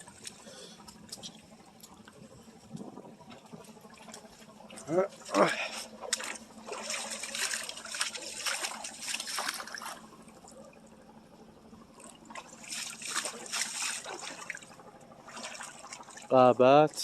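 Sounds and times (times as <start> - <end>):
water trickling in a stream: 0.0 - 17.0.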